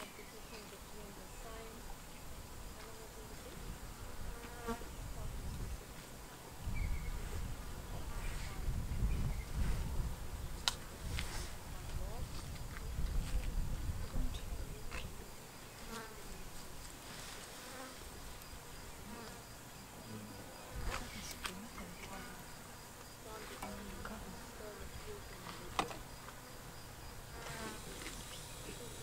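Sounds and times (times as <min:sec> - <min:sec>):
flies buzzing: 0:00.0 - 0:29.0.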